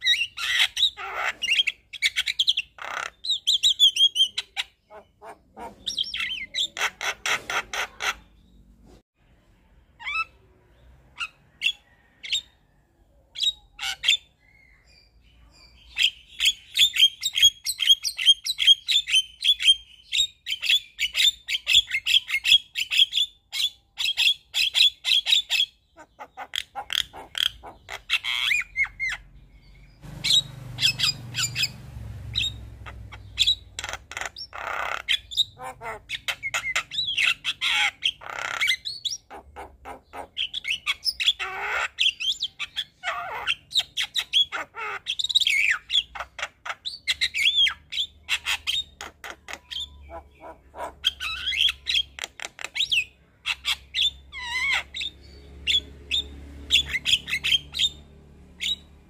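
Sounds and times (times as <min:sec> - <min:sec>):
bird singing chirps and squawks: 0:00.0 - 0:09.0, 0:10.0 - 0:59.0.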